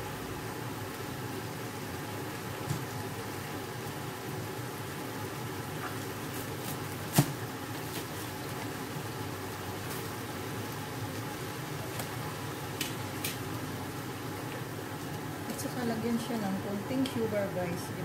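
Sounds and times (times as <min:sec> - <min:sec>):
sauce bubbling in a pot: 0:00.0 - 0:16.3.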